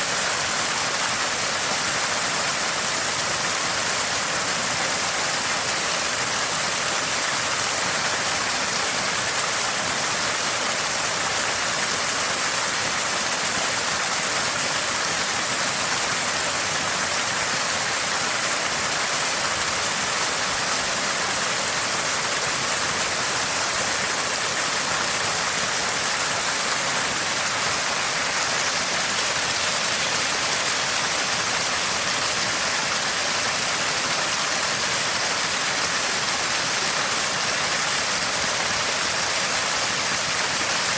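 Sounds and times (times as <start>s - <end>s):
spring water gushing: 0.0s - 40.9s.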